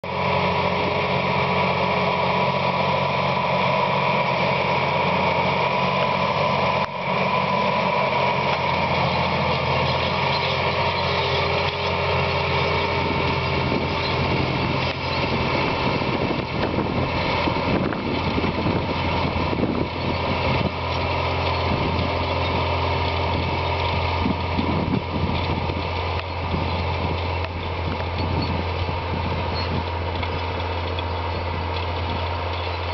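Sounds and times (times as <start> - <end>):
steady machine whine: 0.0 - 32.9
tractor diesel engine running: 0.0 - 32.9
rough rattle: 0.2 - 32.9.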